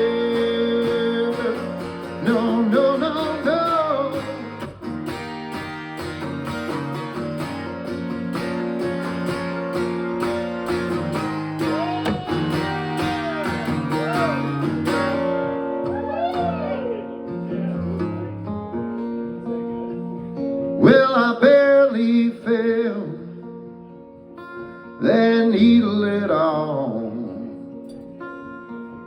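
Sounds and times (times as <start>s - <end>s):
lead guitar bending notes: 0.0s - 29.0s
strummed acoustic guitar: 0.0s - 29.0s.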